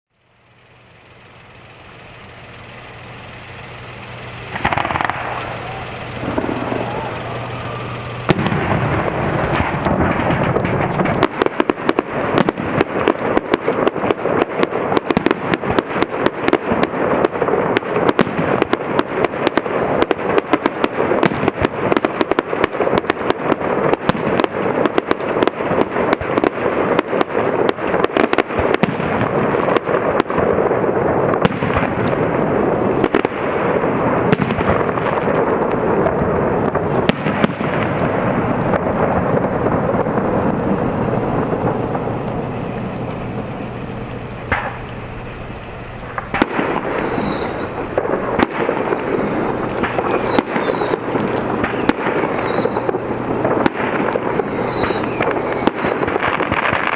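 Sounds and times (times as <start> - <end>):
fireworks crackling and popping: 0.1 - 56.9.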